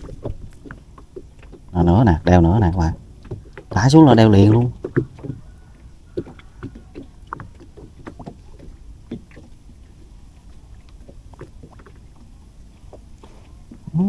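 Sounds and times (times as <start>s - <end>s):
faint ticks and light knocks: 0.0s - 13.9s
low steady rumble: 0.0s - 14.0s.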